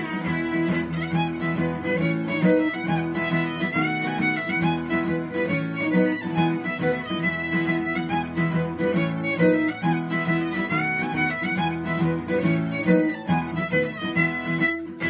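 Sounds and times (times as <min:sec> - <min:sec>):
acoustic guitar accompaniment: 0:00.0 - 0:15.0
fiddle playing a folk tune: 0:00.0 - 0:15.0.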